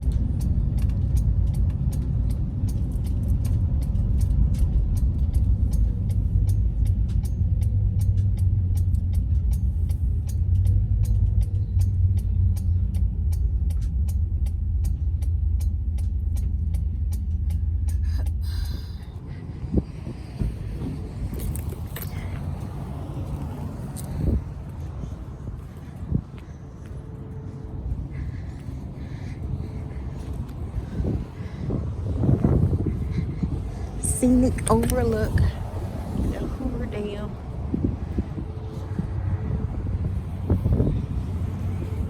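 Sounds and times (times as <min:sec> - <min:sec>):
car road noise rumble: 0:00.0 - 0:42.0.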